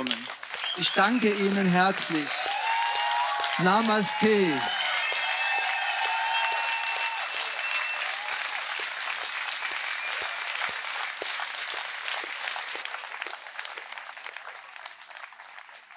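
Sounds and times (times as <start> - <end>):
audience applause: 0.0 - 15.9.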